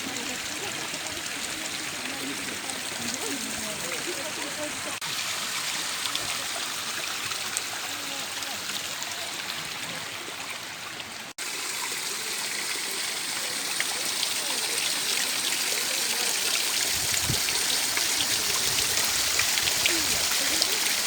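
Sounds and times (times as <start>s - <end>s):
stream running over stones: 0.0s - 21.0s.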